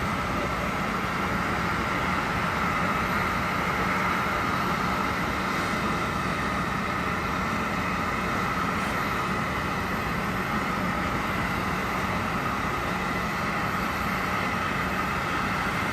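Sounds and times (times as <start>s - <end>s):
jet engines running: 0.0s - 15.9s.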